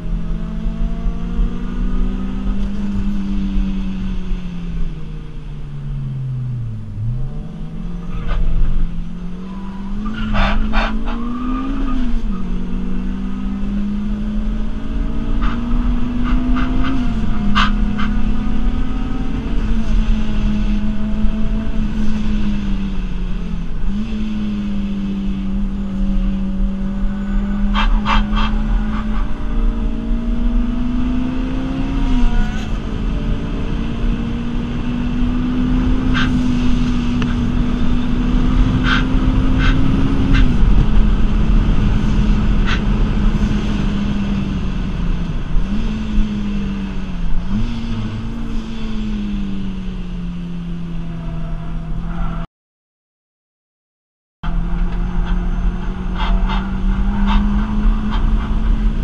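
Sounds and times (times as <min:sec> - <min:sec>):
car engine accelerating through gears: 0:00.0 - 0:52.5, 0:54.4 - 0:59.0
road and tyre rumble: 0:00.0 - 0:52.5, 0:54.4 - 0:59.0.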